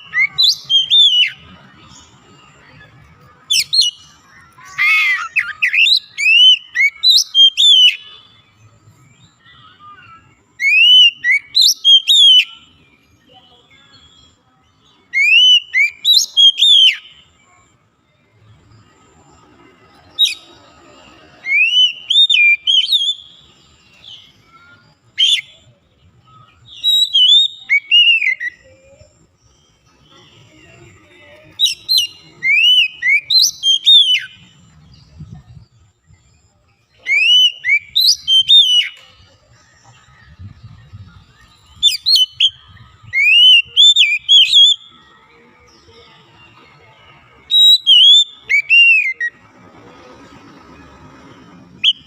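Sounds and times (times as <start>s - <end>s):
bird singing whistled notes: 0.0s - 49.5s, 51.2s - 52.0s.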